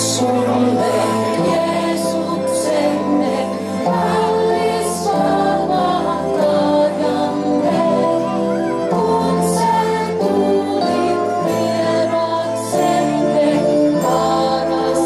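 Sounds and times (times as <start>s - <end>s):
instrumental accompaniment: 0.0s - 15.0s
woman and children singing: 0.0s - 15.0s.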